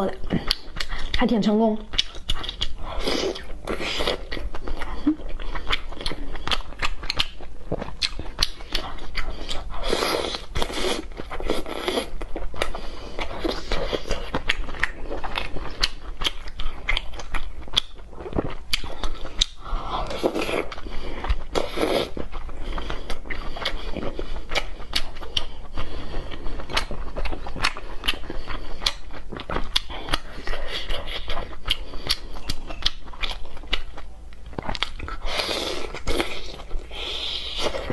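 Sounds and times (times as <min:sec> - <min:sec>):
chewing with mouth clicks: 0:00.0 - 0:37.9.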